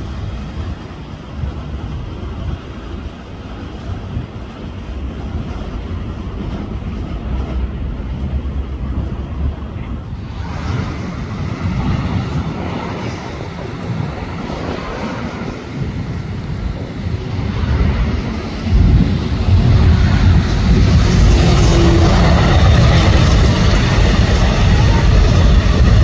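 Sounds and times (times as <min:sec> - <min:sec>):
distant diesel train rumble: 0:00.0 - 0:26.0
wind noise on microphone: 0:00.0 - 0:26.0.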